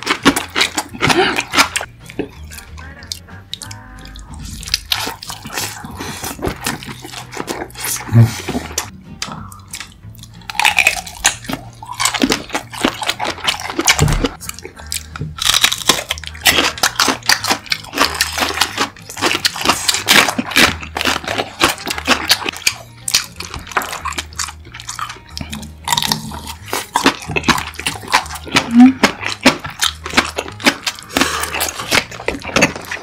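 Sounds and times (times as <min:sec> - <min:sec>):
biting into sausages: 0:00.0 - 0:33.0
chewing with wet mouth clicks: 0:00.0 - 0:33.0.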